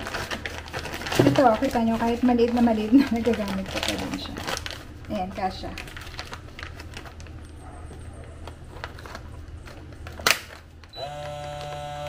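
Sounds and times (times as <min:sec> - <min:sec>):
bag handling noises: 0:00.0 - 0:12.0
vacuum pump humming: 0:00.0 - 0:12.0.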